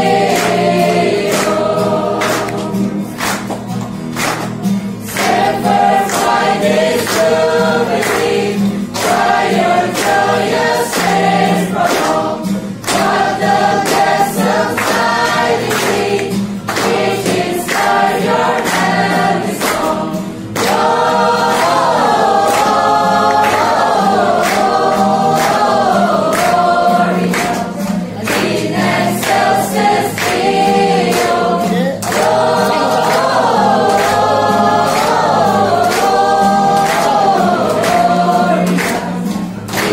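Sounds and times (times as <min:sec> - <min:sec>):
choir singing: 0:00.0 - 0:03.5, 0:05.0 - 0:39.9
acoustic guitar strumming: 0:00.0 - 0:39.9.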